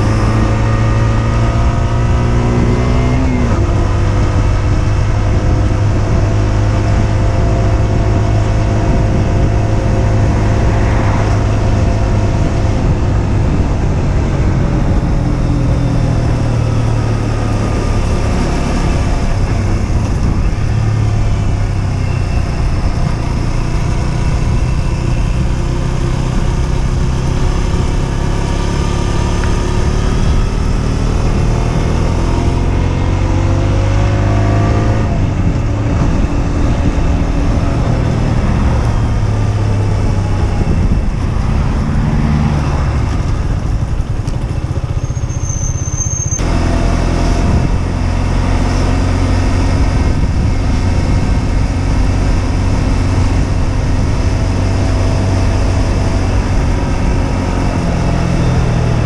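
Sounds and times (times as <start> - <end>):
motorcycle engine revving: 0.0 - 59.0
wind noise on microphone: 0.0 - 59.0.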